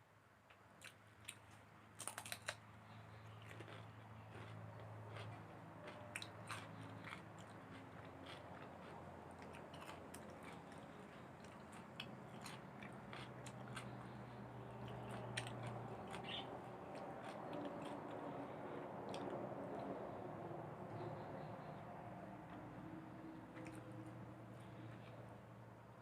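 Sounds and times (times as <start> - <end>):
faint low hum: 0.0 - 26.0
person chewing: 0.8 - 21.7, 23.5 - 25.2.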